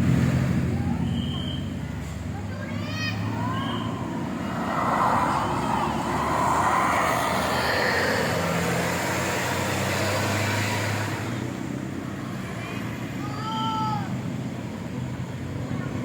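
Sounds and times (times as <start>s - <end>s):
bus driving past: 0.0s - 16.0s
low engine hum: 0.0s - 16.0s.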